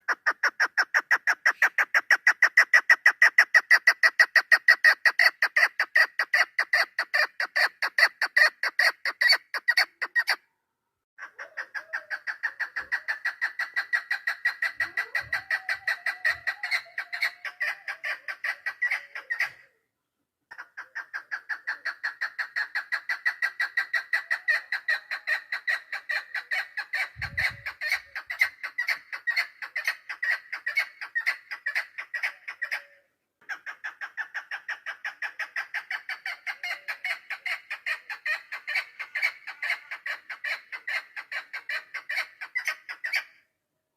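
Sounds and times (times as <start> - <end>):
partridge clucking call: 0.0 - 10.4, 11.2 - 19.8, 20.5 - 43.3.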